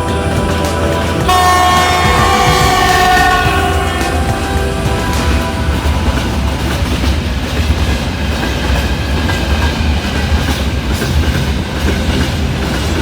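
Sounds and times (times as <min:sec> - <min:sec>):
train wheels clattering: 0:00.0 - 0:13.0.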